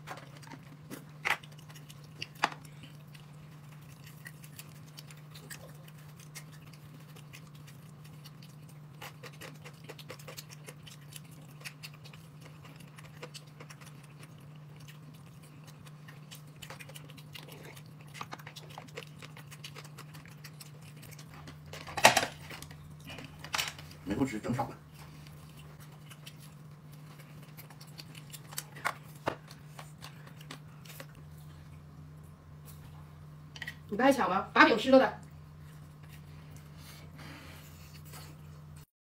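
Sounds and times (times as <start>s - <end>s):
person chewing: 0.0s - 24.0s, 24.8s - 33.9s, 35.2s - 38.8s
steady low hum: 0.0s - 38.9s.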